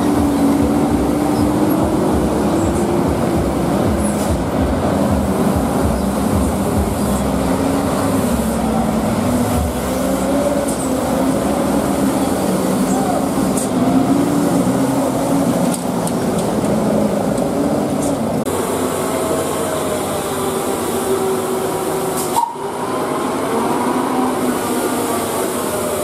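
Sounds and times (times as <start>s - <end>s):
diesel truck engines labouring: 0.0s - 26.0s.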